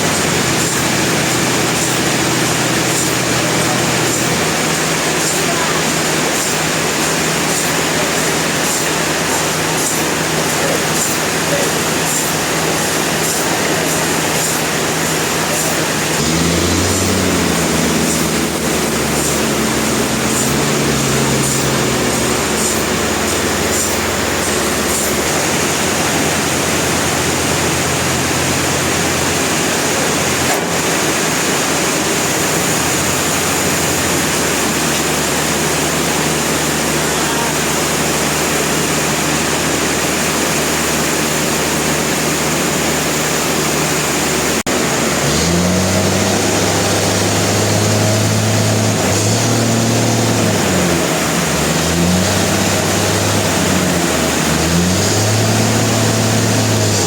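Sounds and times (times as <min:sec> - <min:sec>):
low motor hum: 0:00.0 - 0:57.0
sawmill machinery din: 0:00.0 - 0:57.0.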